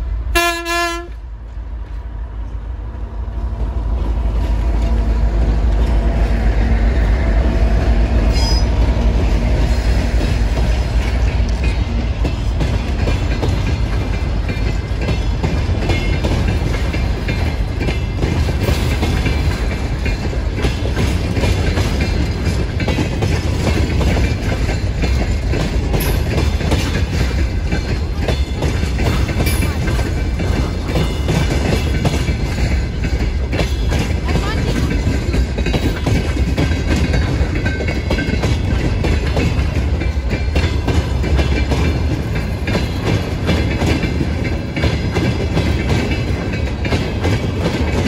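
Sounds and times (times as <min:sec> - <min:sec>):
diesel locomotive engine drone: 0:00.0 - 0:48.0
wagon wheels clattering over rail joints: 0:07.8 - 0:48.0.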